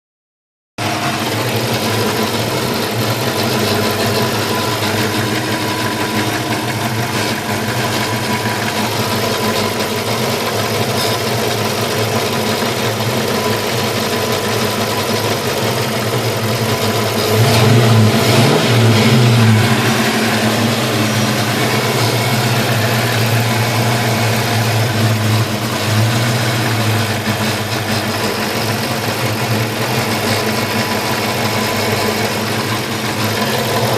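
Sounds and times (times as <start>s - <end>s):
car engine idling: 0.8s - 33.9s.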